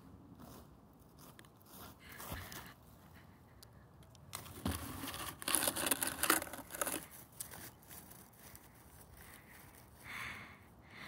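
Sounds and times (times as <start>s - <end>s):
dry grass and leaves crackling: 0.4s - 10.8s.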